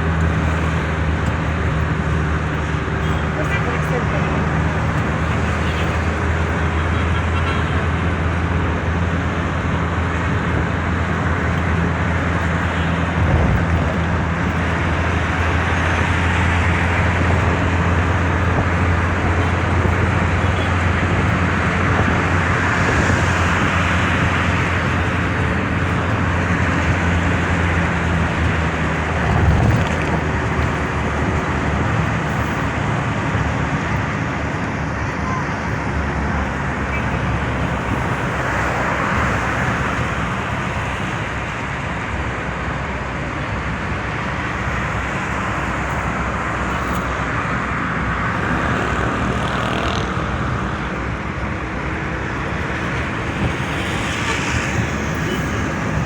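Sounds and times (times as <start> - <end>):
road traffic hum and tyre noise: 0.0 - 56.0.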